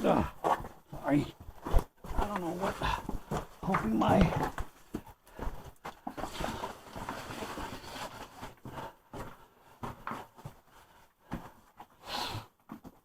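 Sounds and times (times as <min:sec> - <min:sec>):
people moving over rock: 0:00.0 - 0:13.0.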